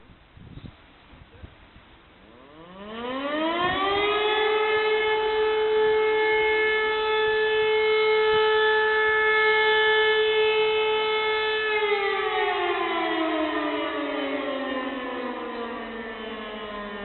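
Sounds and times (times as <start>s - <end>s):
electric motor siren winding down: 2.3s - 17.0s.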